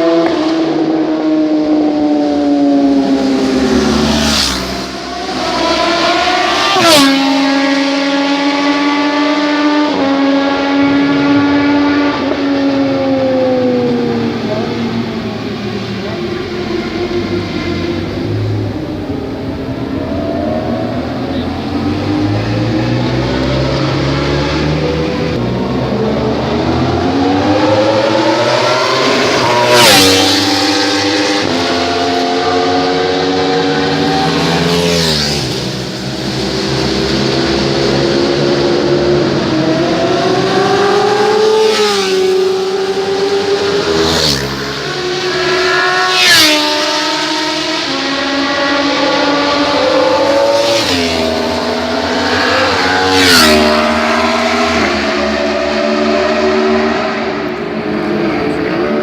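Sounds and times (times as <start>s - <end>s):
motorbike engine accelerating: 0.0s - 59.0s.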